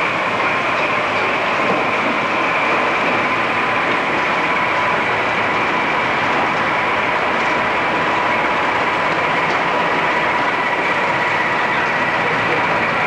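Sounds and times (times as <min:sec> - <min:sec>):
diesel locomotive running slowly: 0:00.0 - 0:13.0.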